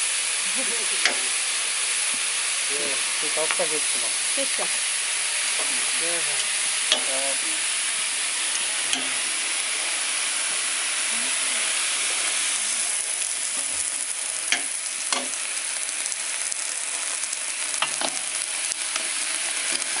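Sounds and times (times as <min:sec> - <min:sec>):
meat sizzling in a pot: 0:00.0 - 0:20.0.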